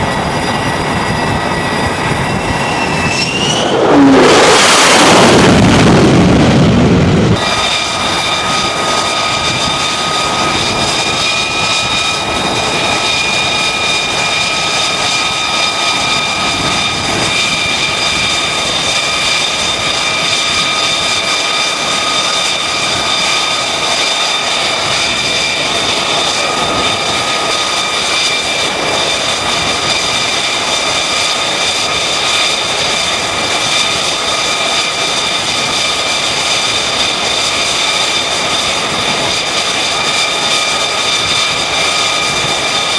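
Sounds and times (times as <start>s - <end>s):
jet engine idling with whine: 0.0s - 42.9s.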